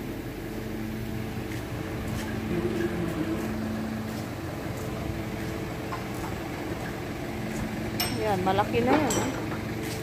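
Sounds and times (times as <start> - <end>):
workshop machinery humming: 0.0 - 10.0.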